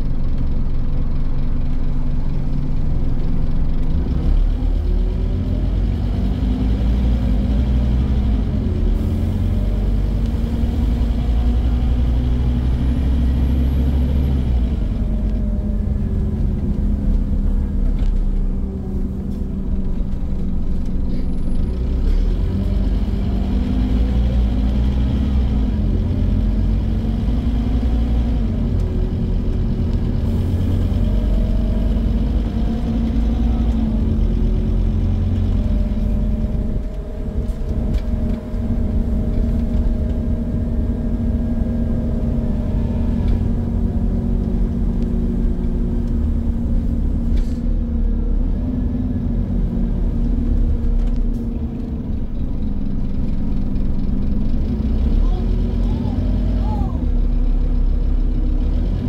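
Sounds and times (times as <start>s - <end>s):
bus diesel engine: 0.0s - 59.0s
low road rumble: 0.0s - 59.0s.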